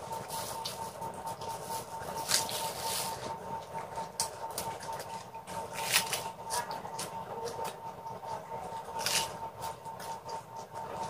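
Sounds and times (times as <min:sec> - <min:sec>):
crunching and chewing leaves: 0:00.1 - 0:07.8, 0:08.6 - 0:10.4.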